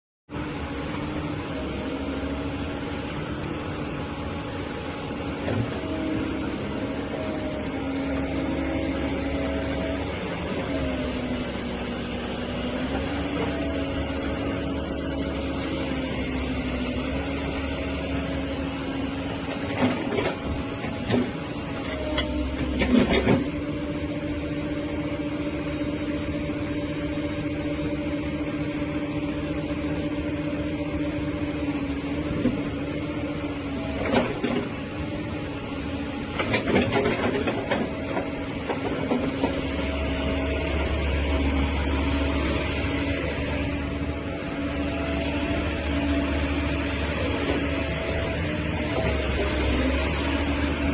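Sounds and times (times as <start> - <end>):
excavator diesel engine running: 0.3 - 50.9.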